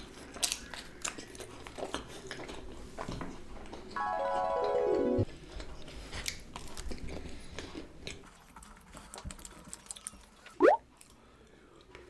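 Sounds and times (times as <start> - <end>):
chewing food: 0.0 - 4.0, 5.3 - 12.0.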